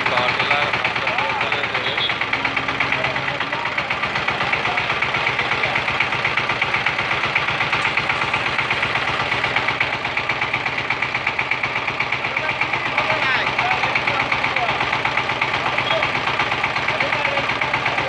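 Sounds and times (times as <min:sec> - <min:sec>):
diesel tiller engine chugging: 0:00.0 - 0:18.0.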